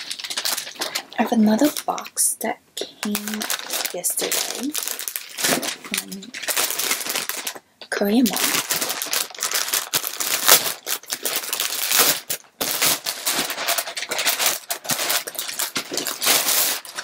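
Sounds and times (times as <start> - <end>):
plastic packaging crinkling: 0.0 - 2.2, 2.9 - 17.0.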